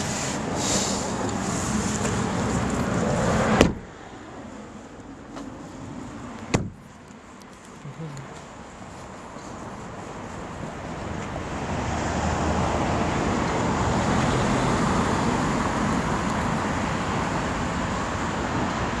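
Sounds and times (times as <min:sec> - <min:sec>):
road traffic rush: 0:00.0 - 0:19.0.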